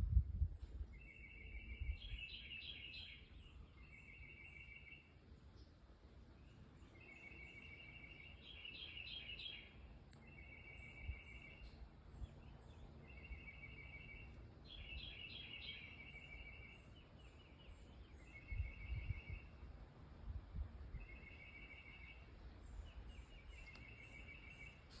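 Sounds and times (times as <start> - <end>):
faint high bird chirps: 0.6 - 5.7, 6.3 - 19.7, 20.9 - 25.0
songbird trilling: 1.0 - 5.1, 6.5 - 19.6, 20.9 - 25.0.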